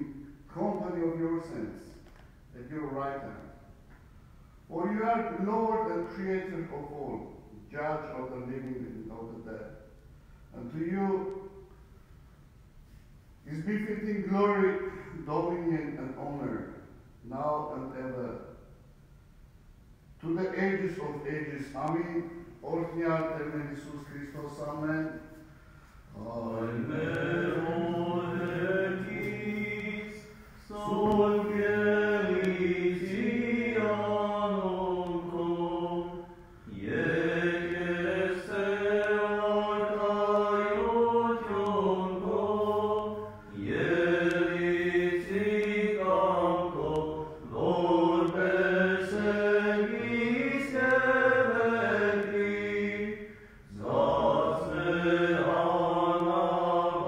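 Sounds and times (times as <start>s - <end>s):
clergy chanting: 0.0s - 3.7s, 4.7s - 9.8s, 10.5s - 11.7s, 13.4s - 18.6s, 20.2s - 57.0s.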